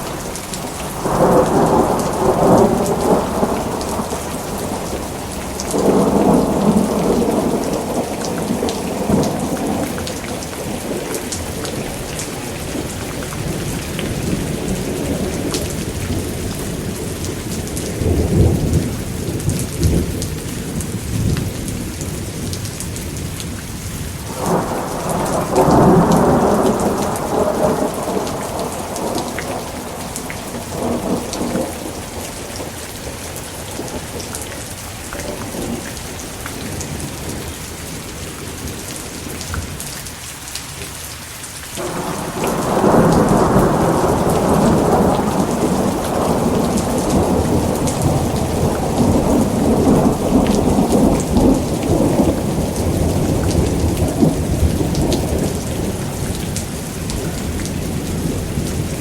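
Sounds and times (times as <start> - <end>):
rolling thunder: 0.0 - 22.6, 24.3 - 34.7, 41.8 - 59.0
steady rain: 0.0 - 59.0.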